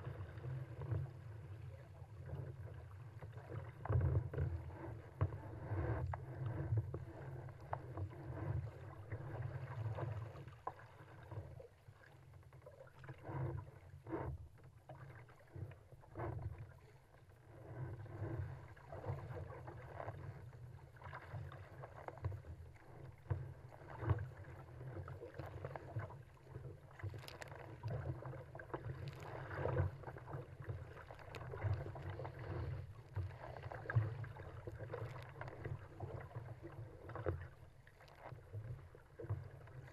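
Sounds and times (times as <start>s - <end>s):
water splashing against kayak hull: 0.0s - 39.9s.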